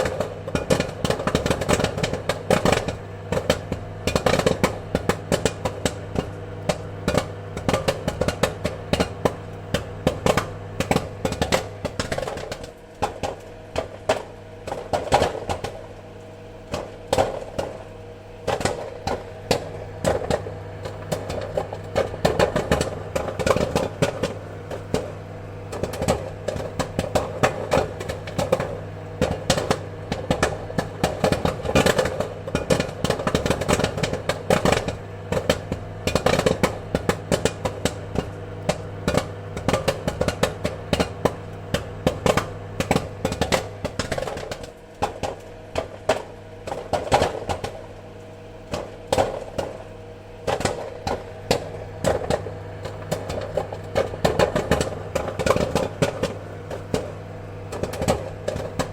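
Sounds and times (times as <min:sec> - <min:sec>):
popcorn popping: 0:00.0 - 0:58.9
steady low hum: 0:00.0 - 0:58.9.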